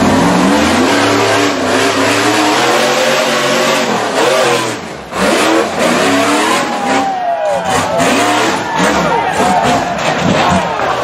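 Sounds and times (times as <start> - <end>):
buggy engine revving hard: 0.0 - 11.0.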